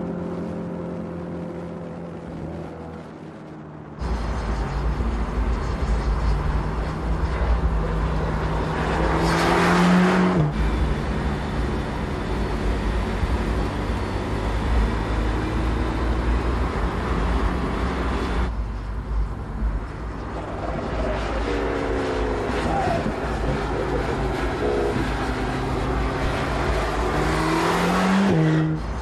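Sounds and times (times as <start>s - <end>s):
race car engine at speed: 0.0s - 29.0s.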